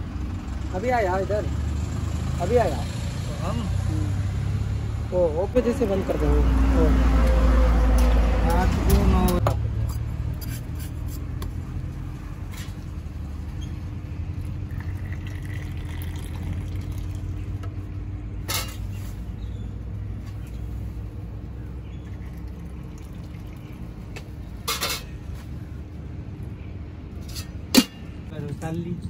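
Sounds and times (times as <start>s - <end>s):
vehicle road and engine rumble: 0.0s - 29.0s.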